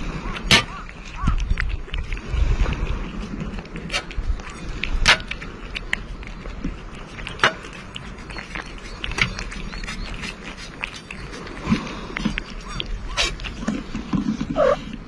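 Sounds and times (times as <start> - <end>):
cat chewing and lapping: 0.0 - 15.0.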